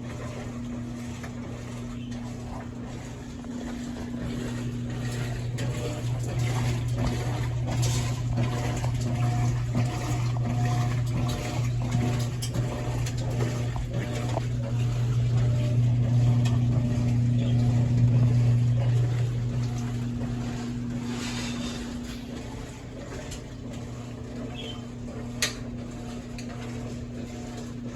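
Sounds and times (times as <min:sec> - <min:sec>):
washing machine motor hum: 0:00.0 - 0:27.9.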